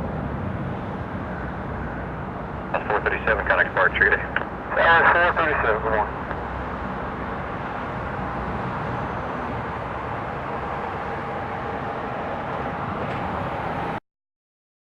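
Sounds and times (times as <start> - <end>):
jet engine: 0.0 - 14.0.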